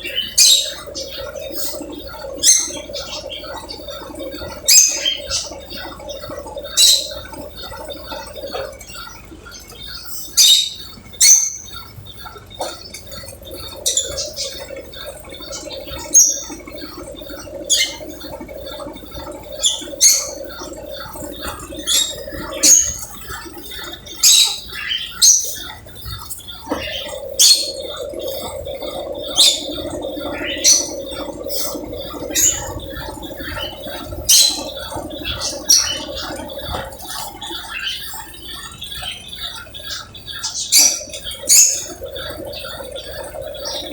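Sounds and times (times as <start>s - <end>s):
washing machine motor humming: 0.0s - 43.9s.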